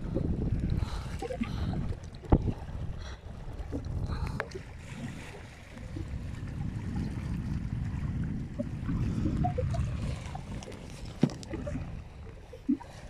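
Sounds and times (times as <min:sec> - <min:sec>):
wind buffeting microphone: 0:00.0 - 0:12.5
waves lapping at shore: 0:00.7 - 0:13.0.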